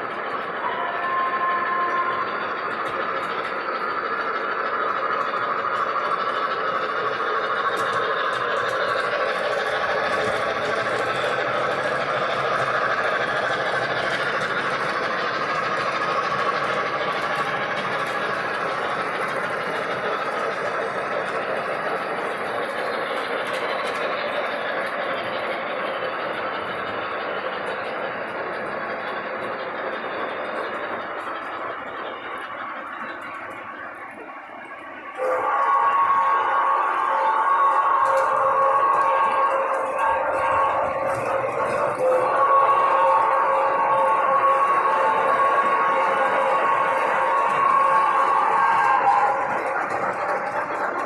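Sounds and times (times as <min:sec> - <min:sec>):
model train whirring on track: 0:00.0 - 0:51.0.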